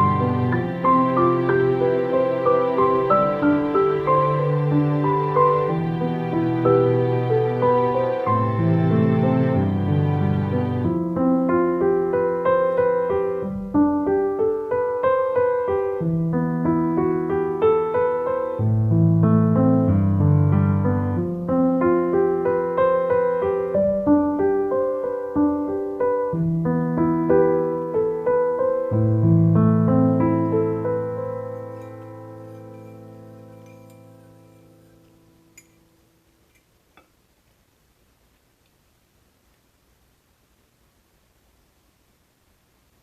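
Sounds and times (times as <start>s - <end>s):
gentle piano music: 0.0s - 36.3s.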